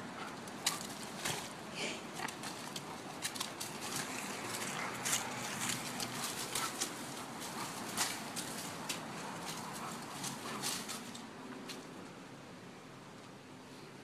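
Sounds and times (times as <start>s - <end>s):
animals scuffling through dry leaves: 0.4s - 11.9s.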